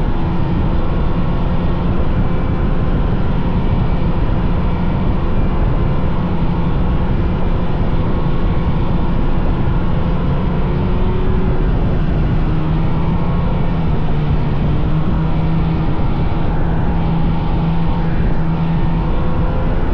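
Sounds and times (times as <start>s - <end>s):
snowmobile engine running: 0.0s - 19.9s.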